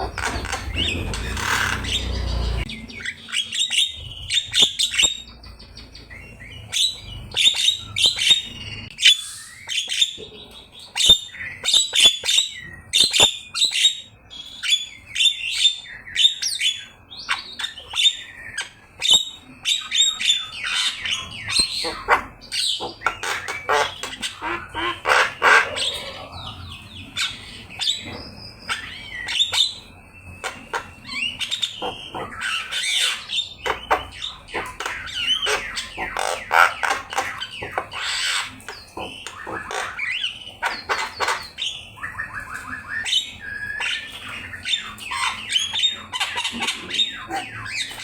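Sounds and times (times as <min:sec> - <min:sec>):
myna bird singing: 0:00.0 - 0:48.0.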